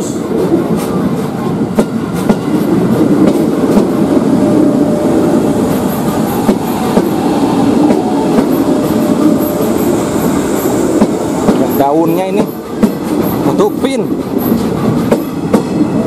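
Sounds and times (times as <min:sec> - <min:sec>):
electric train rumbling past: 0:00.0 - 0:16.0.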